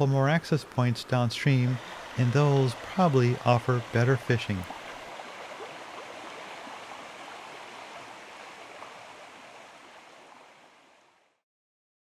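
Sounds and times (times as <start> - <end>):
river water rushing: 1.1 - 11.3.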